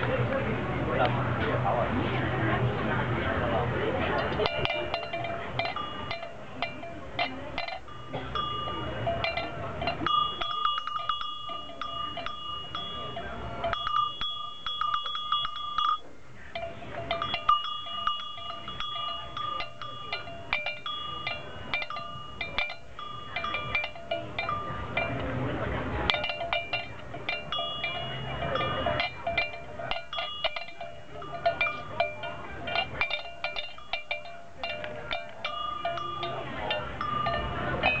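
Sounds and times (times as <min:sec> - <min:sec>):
metal bells clanking: 0:03.5 - 0:38.0
low-pitched bell ringing: 0:04.0 - 0:38.0
high-pitched bell ringing: 0:04.1 - 0:38.0.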